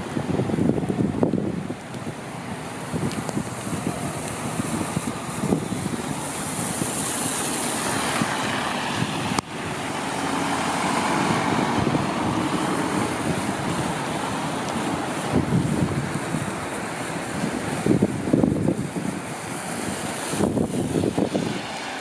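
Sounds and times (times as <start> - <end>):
rain: 0.0 - 22.0
wind noise: 0.0 - 22.0.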